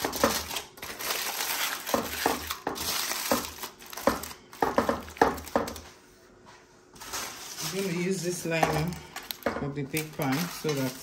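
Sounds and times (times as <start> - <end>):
aluminium foil crinkling: 0.0 - 5.8, 7.0 - 11.0.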